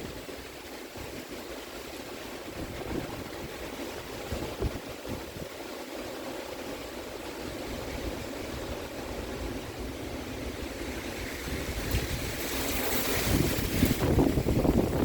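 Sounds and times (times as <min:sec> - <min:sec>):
heavy rain: 0:00.0 - 0:15.0
storm wind buffeting microphone: 0:00.0 - 0:15.0.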